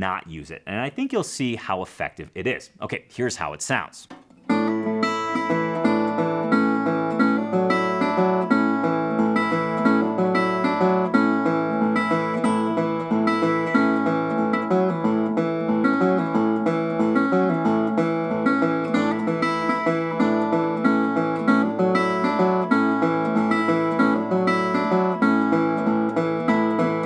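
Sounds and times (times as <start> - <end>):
resonator guitar fingerpicked: 4.1 - 27.0.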